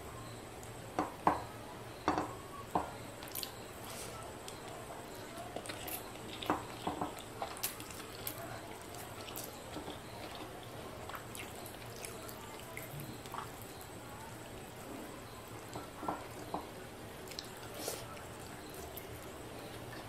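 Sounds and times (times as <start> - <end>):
fingers mixing food wet clicks: 2.1 - 20.0.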